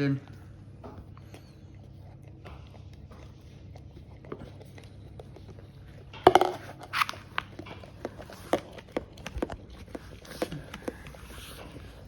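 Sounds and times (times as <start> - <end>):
dog licking and lapping: 0.2 - 12.0.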